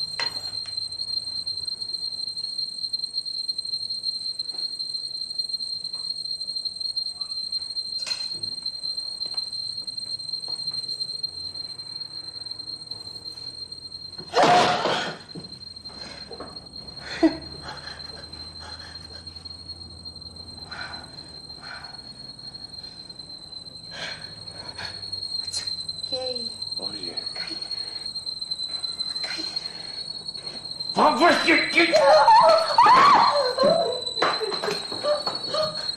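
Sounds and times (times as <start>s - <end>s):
steady high-pitched whine: 0.0s - 35.9s.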